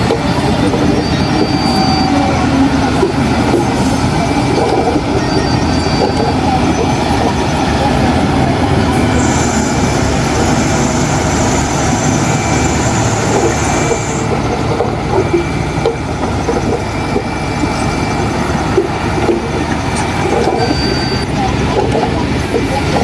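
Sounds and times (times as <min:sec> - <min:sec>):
thin high whine: 0:00.0 - 0:22.9
diesel machinery running: 0:00.0 - 0:23.0.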